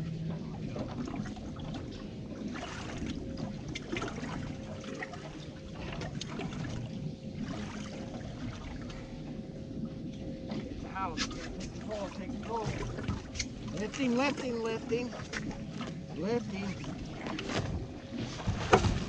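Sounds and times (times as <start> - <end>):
faint steady hum: 0.0 - 19.0
low steady rumble: 0.0 - 19.0
water lapping against boat hull: 0.0 - 19.0.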